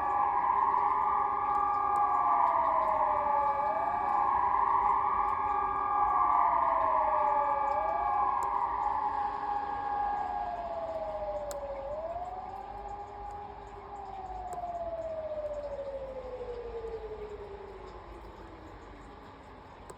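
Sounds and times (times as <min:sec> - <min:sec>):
civil defence sirens wailing: 0:00.0 - 0:19.9.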